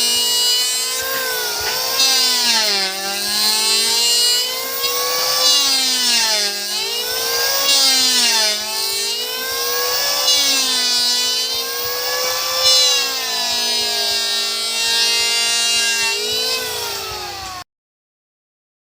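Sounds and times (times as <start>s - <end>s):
electric planer whining on wood: 0.0s - 17.7s.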